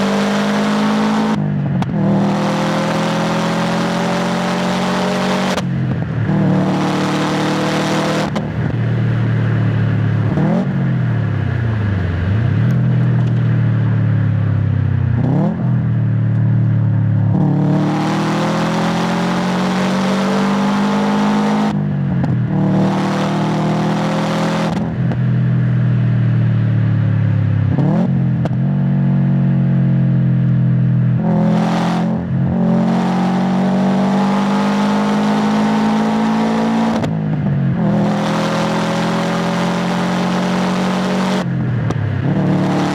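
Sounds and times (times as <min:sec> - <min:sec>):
car exhaust revving: 0:00.0 - 0:42.9.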